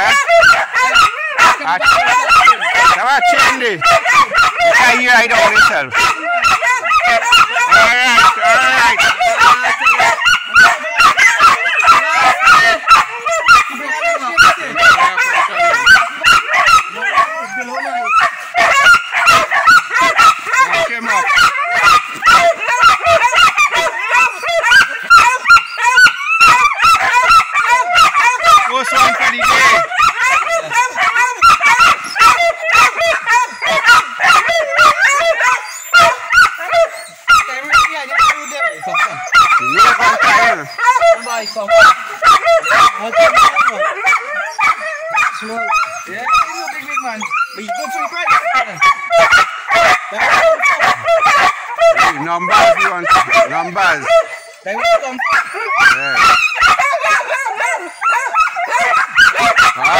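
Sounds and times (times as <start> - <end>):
dogs barking and yelping: 0.0 - 59.9.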